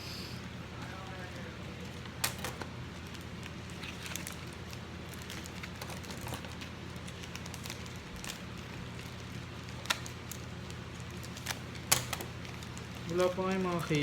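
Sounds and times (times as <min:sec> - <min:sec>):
steady low hum: 0:00.0 - 0:14.0
card handling clicks and rustling: 0:01.7 - 0:14.0.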